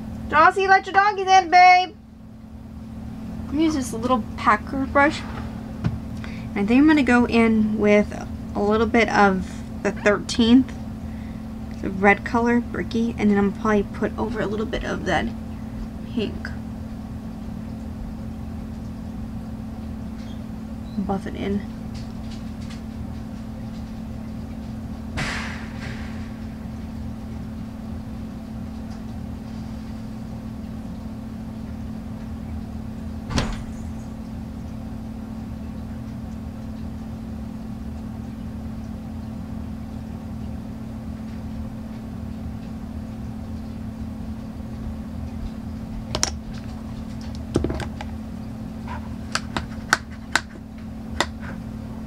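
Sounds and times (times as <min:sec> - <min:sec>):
low appliance hum: 0:00.0 - 0:52.0.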